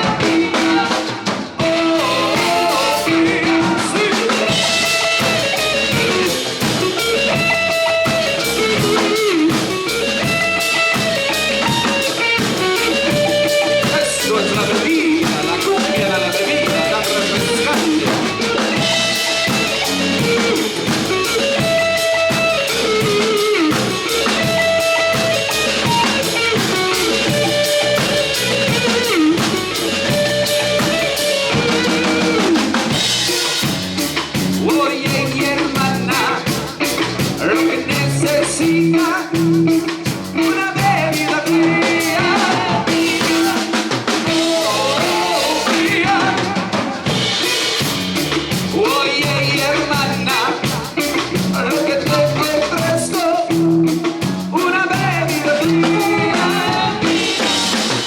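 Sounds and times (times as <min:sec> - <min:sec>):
drum kit beat with rimshots: 0:00.0 - 0:58.0
live band playing cumbia: 0:00.0 - 0:58.0.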